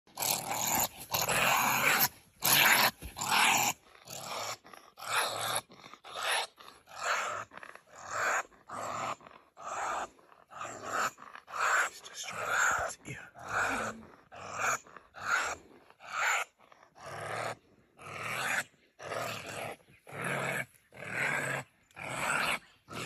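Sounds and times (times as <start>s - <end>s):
honey badger growling: 0.1s - 23.0s.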